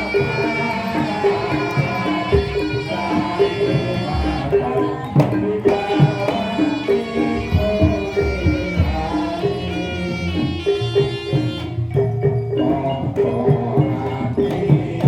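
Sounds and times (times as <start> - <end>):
held high melody line: 0.0 - 15.0
repeated metallophone notes: 0.0 - 15.0.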